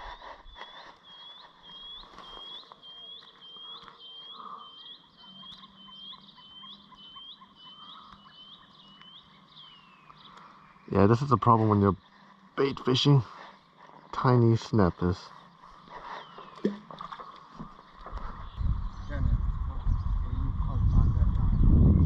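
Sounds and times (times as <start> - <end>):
small bird chirping: 0.0 - 21.9.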